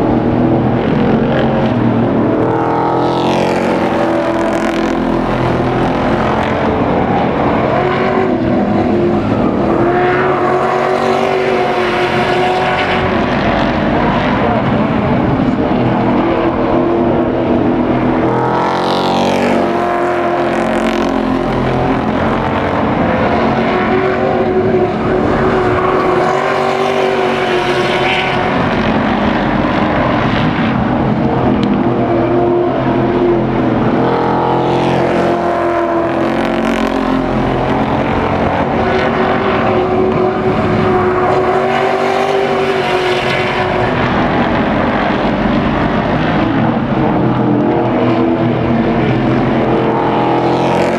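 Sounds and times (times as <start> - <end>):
race truck engines running hard: 0.0 - 50.9.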